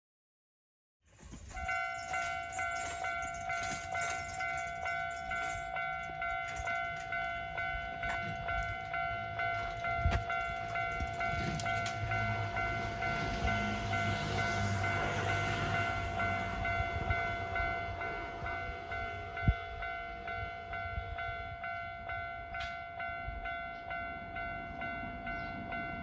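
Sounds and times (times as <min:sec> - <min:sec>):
level crossing warning bell: 0:01.1 - 0:26.0
train low rumble: 0:01.2 - 0:26.0.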